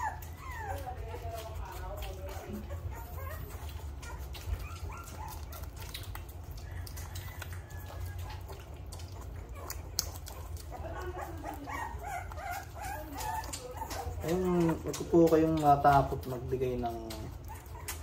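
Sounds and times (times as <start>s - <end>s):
puppy whimpering and squeaking: 0.0s - 18.0s.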